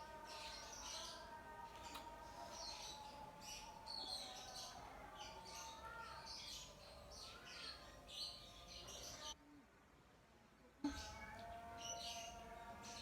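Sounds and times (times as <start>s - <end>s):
small birds chirping: 0.0s - 9.4s, 10.8s - 13.0s.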